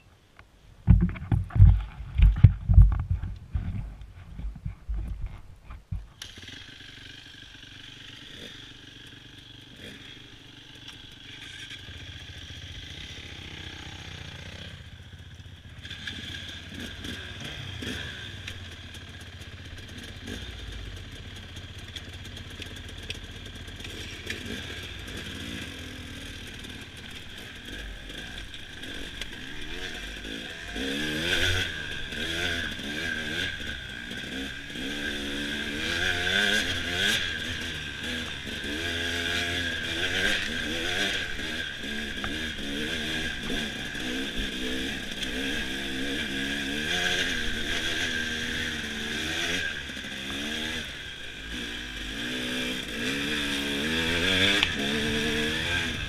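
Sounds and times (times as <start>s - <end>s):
dirt bike engine revving: 6.2s - 56.0s.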